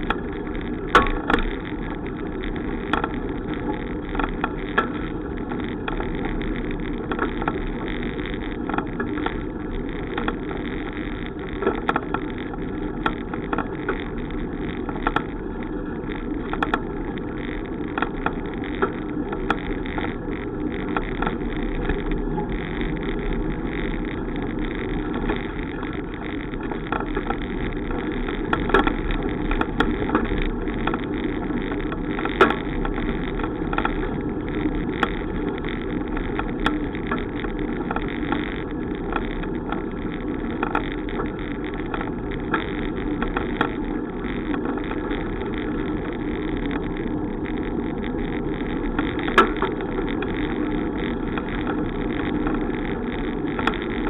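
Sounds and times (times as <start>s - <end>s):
bicycle road noise: 0.0s - 54.0s
small clicks and knocks: 0.0s - 54.0s.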